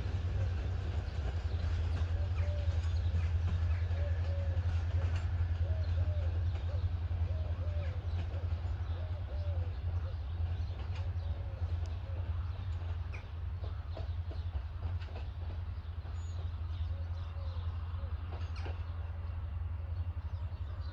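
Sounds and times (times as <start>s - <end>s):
faint bird calls and chirps: 0.3s - 20.9s.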